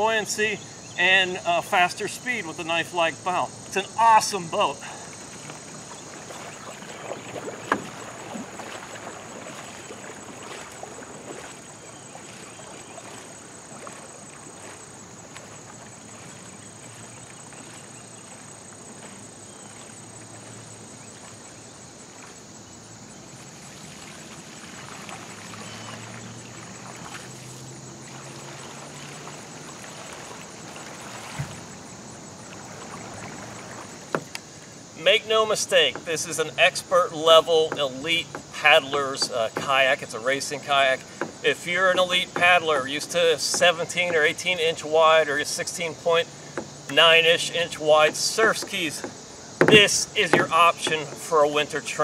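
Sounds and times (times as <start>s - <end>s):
high insect drone: 0.0s - 52.0s
kayak paddle strokes splashing: 0.0s - 52.0s
water lapping: 0.6s - 52.0s.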